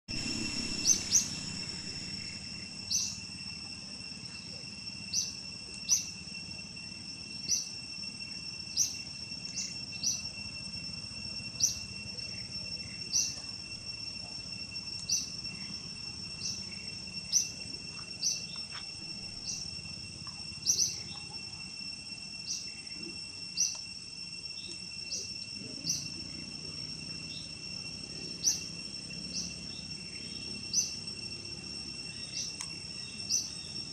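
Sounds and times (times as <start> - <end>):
high-pitched insect drone: 0.1 - 33.9
short high insect chirp: 0.1 - 33.9.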